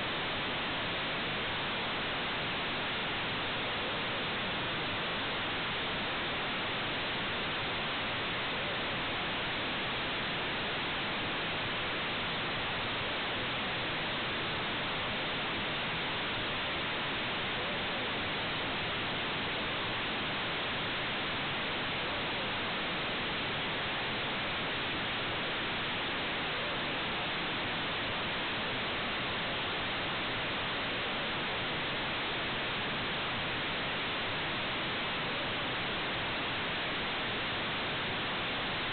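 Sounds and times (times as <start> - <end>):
steady electronic hiss: 0.0 - 38.9.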